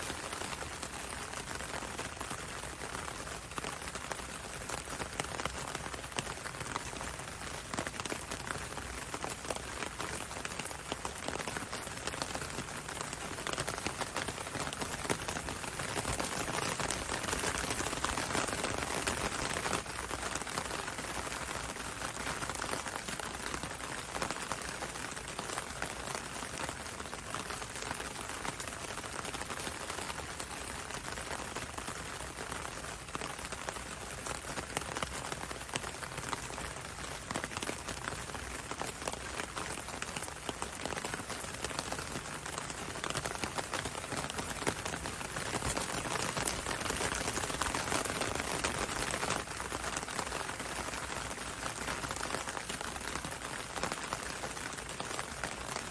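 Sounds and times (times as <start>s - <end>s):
rain pattering on a window: 0.0s - 55.9s.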